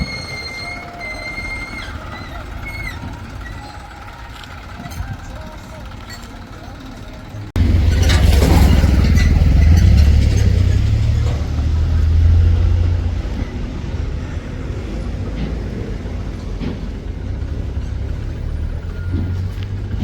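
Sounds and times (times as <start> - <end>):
diesel engine deep rumble: 0.0 - 20.0.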